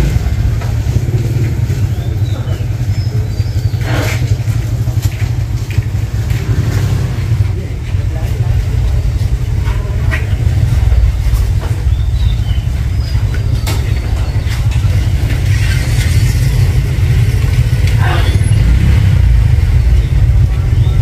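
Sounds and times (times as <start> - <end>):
faint voices: 0.0 - 21.0
street noise rumble: 0.0 - 21.0.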